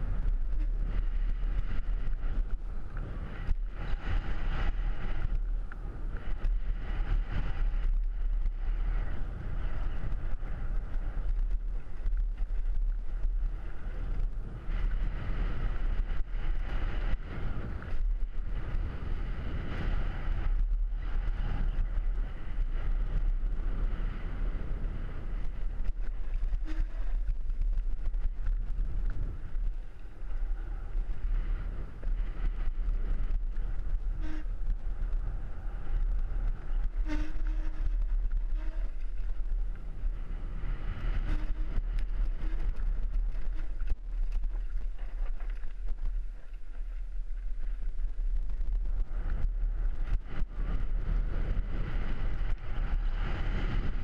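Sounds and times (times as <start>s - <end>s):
bike tyres rolling over dirt: 0.0s - 54.0s
wind buffeting microphone: 0.0s - 54.0s
bike knocking and rattling: 0.2s - 23.2s, 24.1s - 54.0s.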